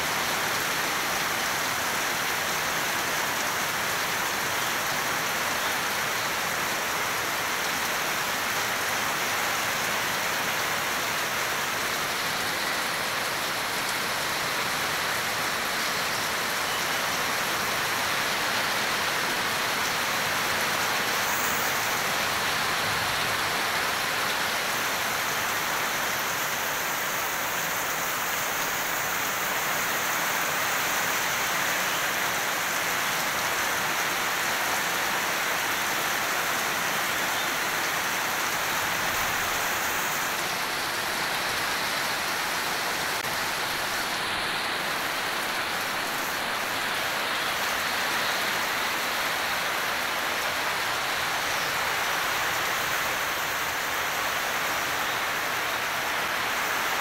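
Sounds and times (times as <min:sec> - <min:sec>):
heavy rain on leafy plants: 0:00.0 - 0:57.0.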